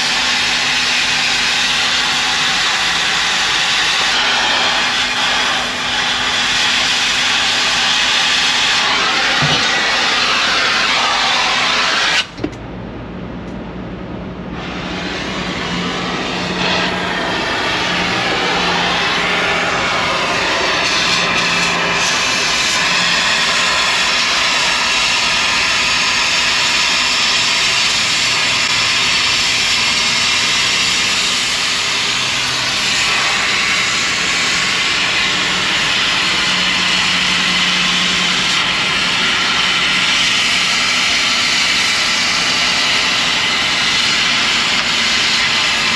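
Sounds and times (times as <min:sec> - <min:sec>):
cutting torch hissing: 0:00.0 - 0:12.4, 0:14.6 - 0:45.9.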